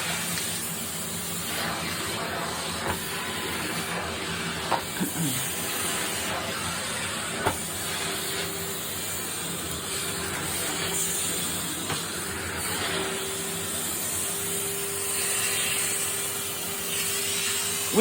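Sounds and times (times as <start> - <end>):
vacuum cleaner on carpet: 0.0 - 18.0.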